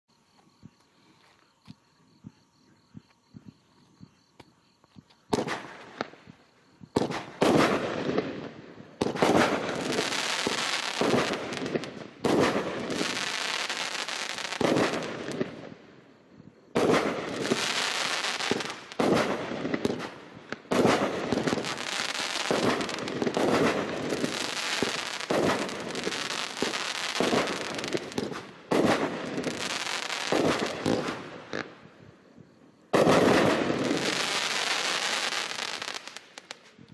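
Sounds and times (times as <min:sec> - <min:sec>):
firework bangs: 0:05.3 - 0:15.7, 0:16.7 - 0:32.0, 0:32.9 - 0:36.7
firework crackling: 0:05.3 - 0:15.9, 0:16.7 - 0:32.0, 0:32.9 - 0:36.9.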